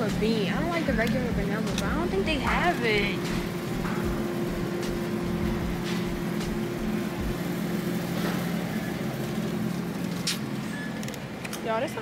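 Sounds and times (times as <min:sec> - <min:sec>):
freezer electrical hum: 0:00.0 - 0:12.0.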